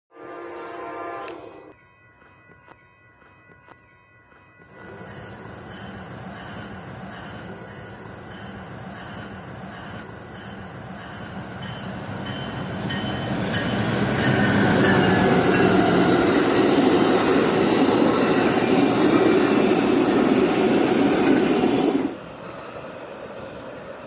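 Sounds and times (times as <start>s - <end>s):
diesel locomotive engine hum: 0.1s - 24.0s
train wheels rushing on rails: 0.5s - 24.0s.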